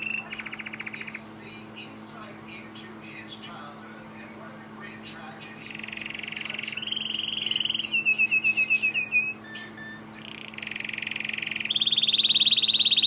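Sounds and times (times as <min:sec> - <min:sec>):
canary singing trills: 0:00.0 - 0:13.0.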